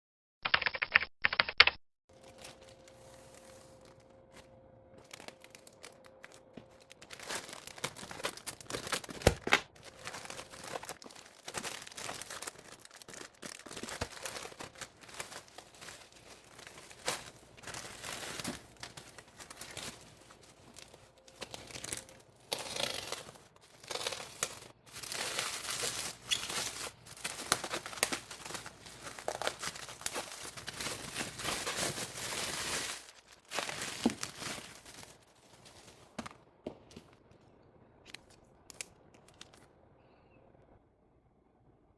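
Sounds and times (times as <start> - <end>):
packaging tearing and crinkling: 2.1 - 4.2, 5.0 - 36.3, 38.1 - 39.6.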